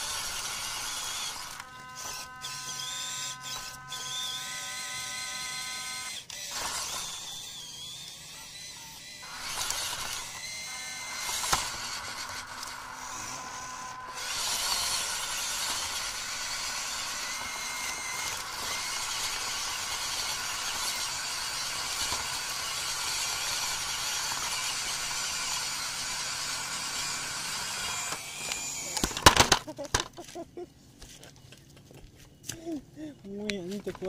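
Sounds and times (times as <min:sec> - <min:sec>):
rc car motor whining: 0:00.0 - 0:30.1.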